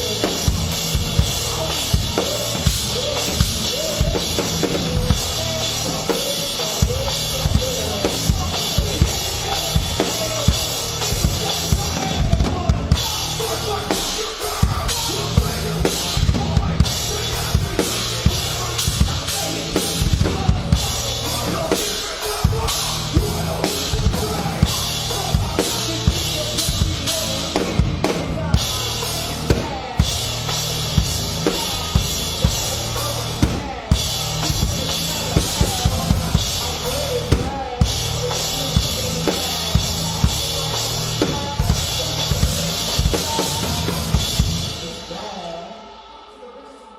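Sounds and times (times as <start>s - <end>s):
rock band music: 0.0s - 46.9s.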